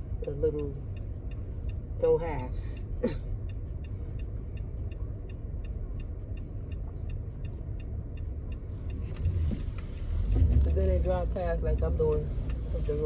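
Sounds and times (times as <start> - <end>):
engine and road rumble: 0.0 - 13.0
turn signal ticking: 0.0 - 13.0.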